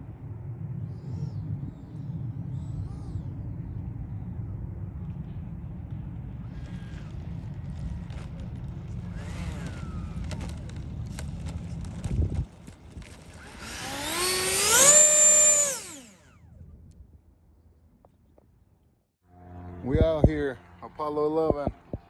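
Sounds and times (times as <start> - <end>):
electric ducted fan whine: 0.0 - 17.4, 19.3 - 22.0
low rumble: 0.0 - 22.0.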